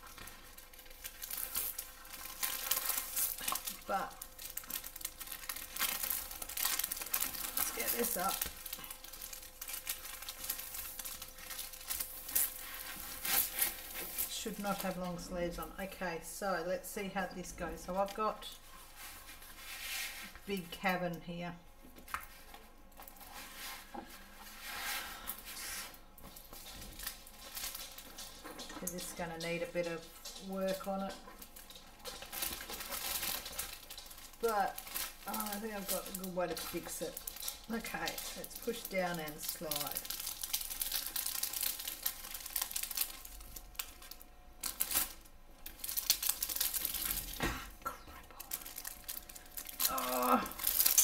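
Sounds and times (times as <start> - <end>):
plastic film rustling: 0.0 - 16.6, 17.4 - 20.6, 21.9 - 51.0.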